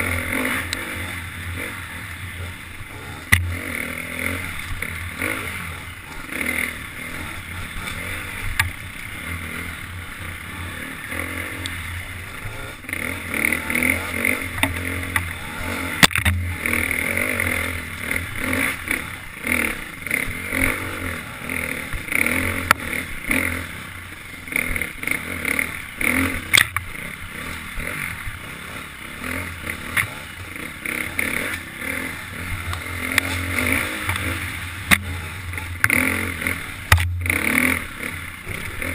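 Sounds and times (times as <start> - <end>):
bike rattling over rough ground: 0.0 - 38.9
dirt bike engine revving: 0.0 - 38.9.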